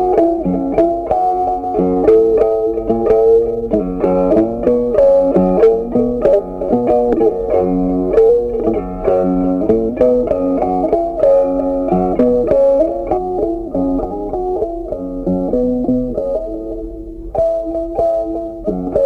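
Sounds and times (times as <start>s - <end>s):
plucked string instrumental music: 0.0s - 19.0s.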